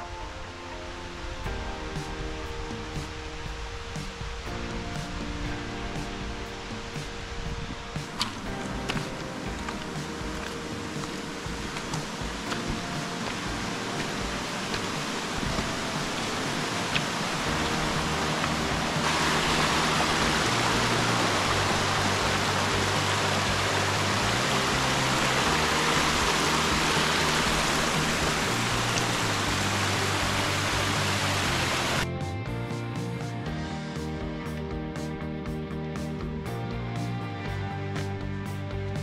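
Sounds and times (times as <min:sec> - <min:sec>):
rushing water: 0:00.0 - 0:32.2
background music: 0:00.0 - 0:39.0.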